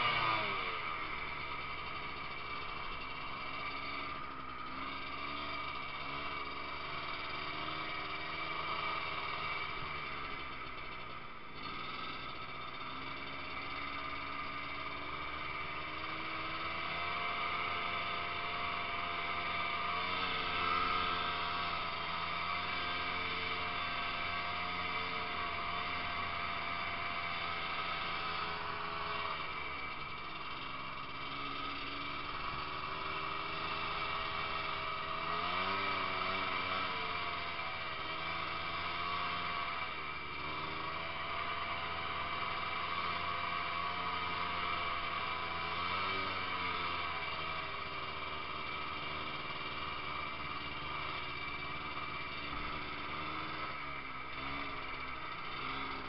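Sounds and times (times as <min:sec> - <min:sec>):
snowmobile engine revving: 0:00.0 - 0:10.8, 0:11.6 - 0:56.0.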